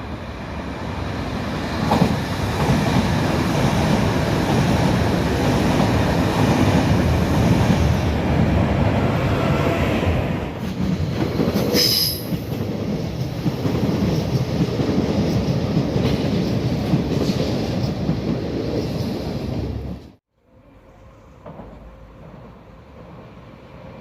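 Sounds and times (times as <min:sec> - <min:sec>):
train rolling past: 0:00.0 - 0:24.0.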